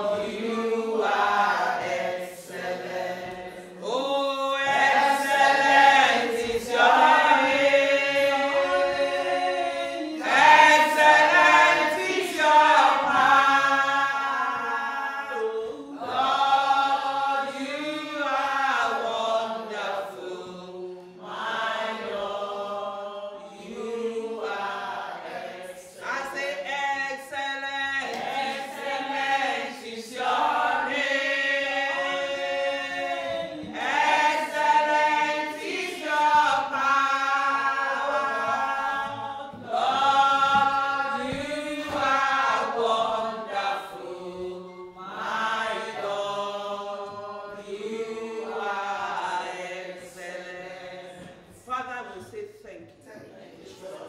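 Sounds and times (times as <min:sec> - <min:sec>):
woman singing gospel song: 0:00.0 - 0:20.6, 0:21.2 - 0:44.2.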